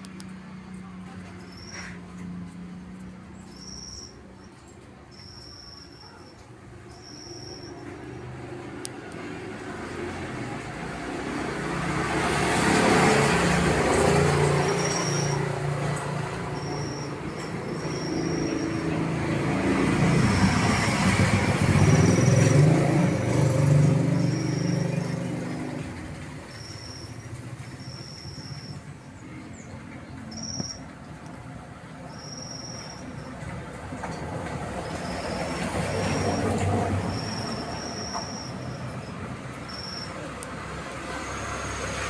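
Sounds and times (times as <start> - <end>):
passing traffic rumble: 0.0 - 42.0.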